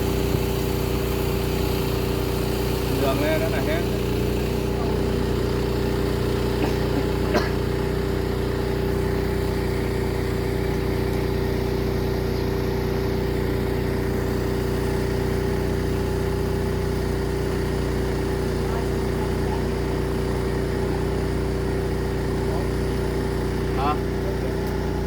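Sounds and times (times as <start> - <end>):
motor running steadily: 0.0 - 25.0.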